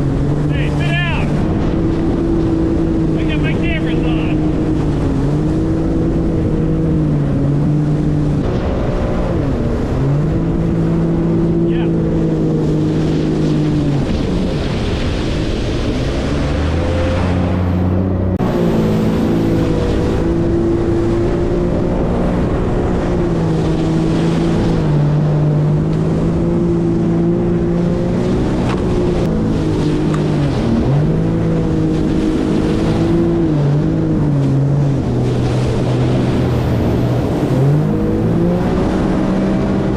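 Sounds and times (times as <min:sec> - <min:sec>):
water and wind rushing: 0:00.0 - 0:39.9
watercraft engine running: 0:00.0 - 0:39.9.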